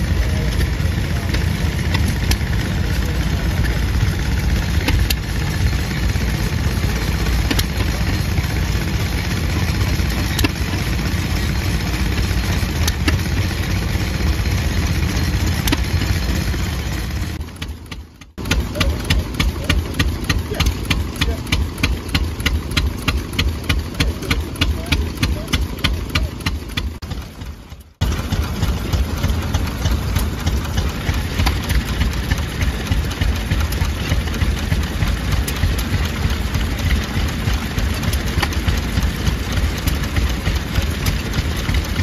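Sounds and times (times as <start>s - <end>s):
engine with fast sharp ticks: 0.0s - 42.0s
stationary engine chugging: 0.0s - 42.0s.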